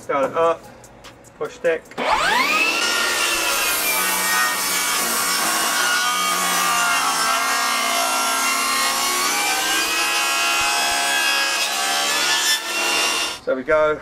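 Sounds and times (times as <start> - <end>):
table saw cutting timber: 2.0 - 13.4.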